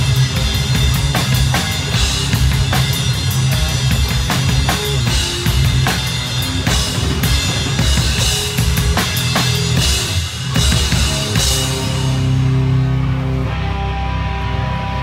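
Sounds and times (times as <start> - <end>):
drum kit kick and snare: 0.0 - 12.3
distorted guitar and bass: 0.0 - 15.0
metal band playing: 0.0 - 15.0.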